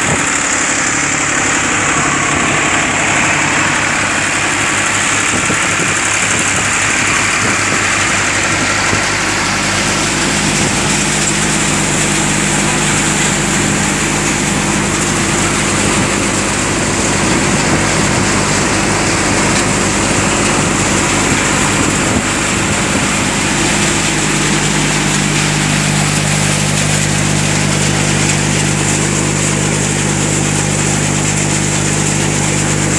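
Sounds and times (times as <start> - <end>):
threshing drum rushing noise: 0.0 - 32.9
tractor engine running: 0.0 - 32.9.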